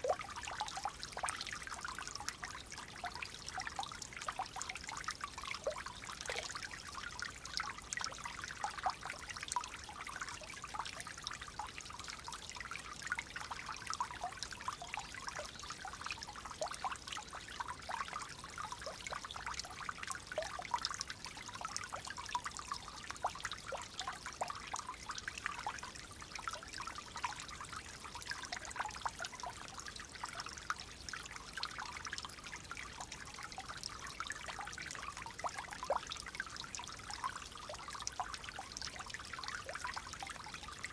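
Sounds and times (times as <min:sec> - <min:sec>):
water flowing gently: 0:00.0 - 0:40.9.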